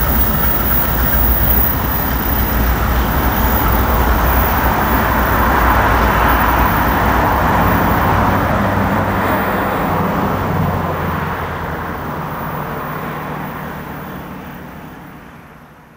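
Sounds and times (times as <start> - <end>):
train wheels rumbling on rails: 0.0 - 15.3
diesel locomotive engine hum: 0.0 - 15.9.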